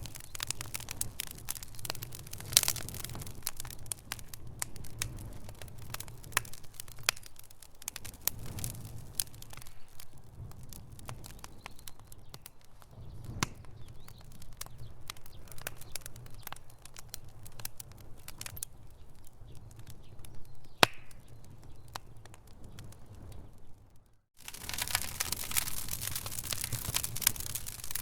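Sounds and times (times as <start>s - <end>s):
low rumble of flames: 0.0s - 28.0s
wood fire crackling and popping: 0.0s - 28.0s.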